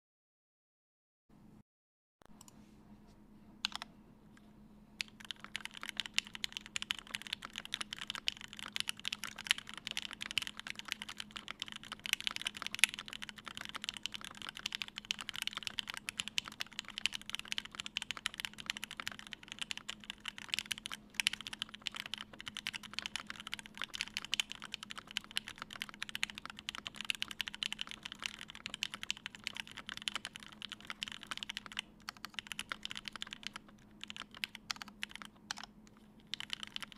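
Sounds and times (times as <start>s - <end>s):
mechanical keyboard typing: 3.6s - 3.9s, 5.0s - 36.9s.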